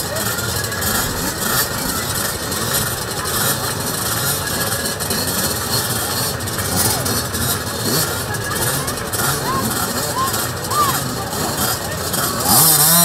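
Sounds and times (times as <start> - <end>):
minibike engines idling: 0.0 - 13.0
small engine revs: 0.0 - 13.0.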